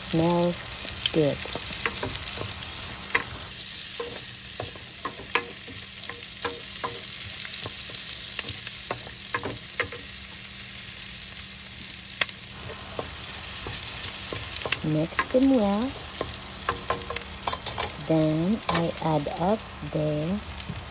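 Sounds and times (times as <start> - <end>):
garlic and onion sizzling in oil: 0.0 - 20.9.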